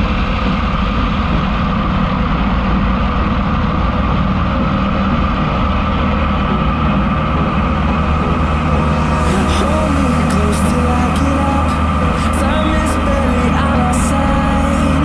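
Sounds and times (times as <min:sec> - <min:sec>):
light airplane engine droning: 0:00.0 - 0:15.0.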